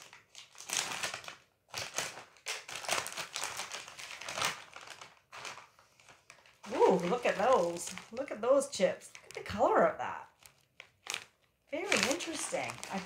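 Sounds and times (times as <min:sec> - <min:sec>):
plastic bag crinkling and rustling: 0:00.0 - 0:13.0.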